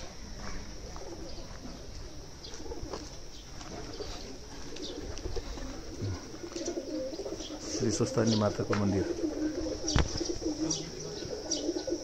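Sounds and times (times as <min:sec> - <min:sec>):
birds cooing: 0:00.0 - 0:12.0
outdoor background hiss: 0:00.0 - 0:12.0.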